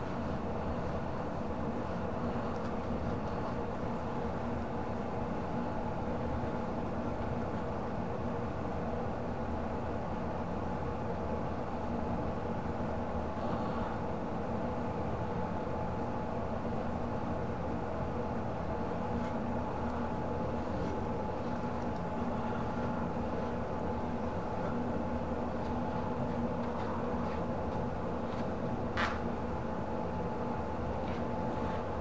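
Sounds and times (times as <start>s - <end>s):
steady mechanical drone: 0.0s - 32.0s.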